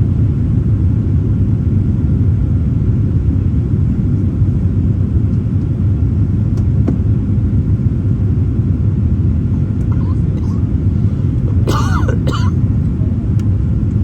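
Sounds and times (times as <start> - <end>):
airliner engines rumbling in cabin: 0.0 - 14.0.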